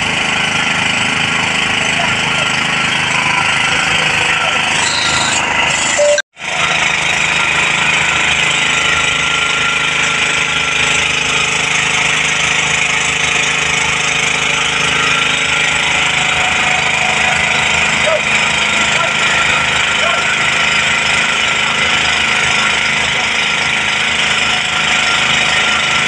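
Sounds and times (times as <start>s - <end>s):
engine humming: 0.0s - 26.0s
fire hoses spraying water: 0.0s - 26.0s.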